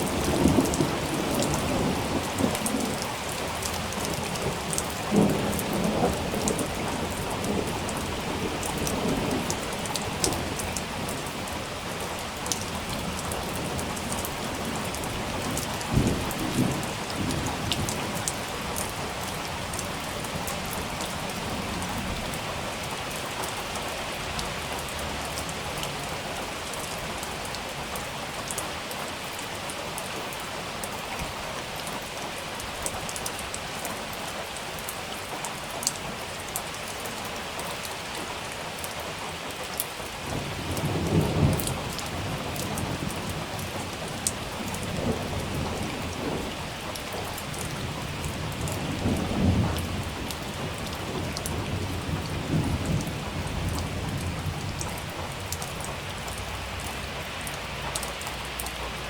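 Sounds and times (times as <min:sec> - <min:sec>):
raindrops ticking close by: 0:00.0 - 0:59.0
steady rain: 0:00.0 - 0:59.0.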